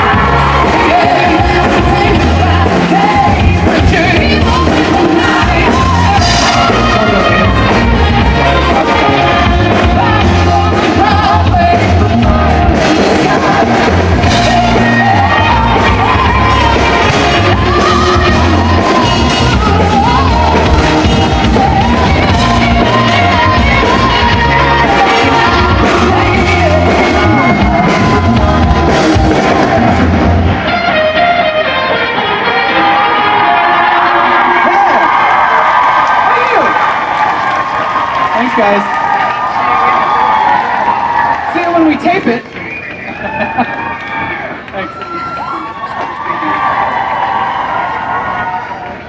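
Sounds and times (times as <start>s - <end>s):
live pop-rock band: 0.0s - 41.5s.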